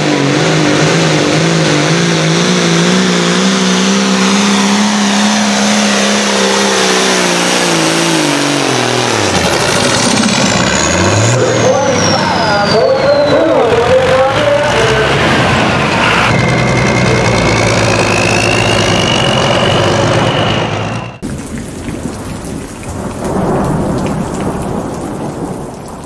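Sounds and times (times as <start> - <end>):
tractor diesel engine at full power: 0.0 - 22.2.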